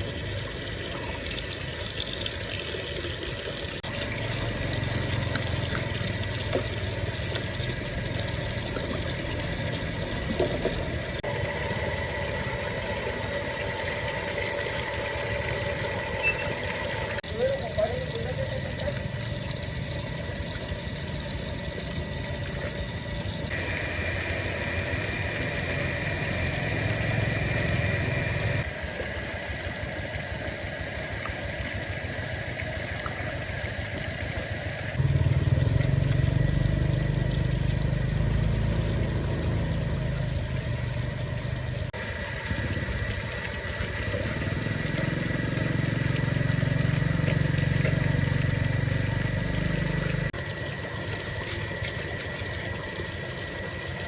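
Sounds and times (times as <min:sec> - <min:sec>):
machine motor running: 0:03.7 - 0:54.0.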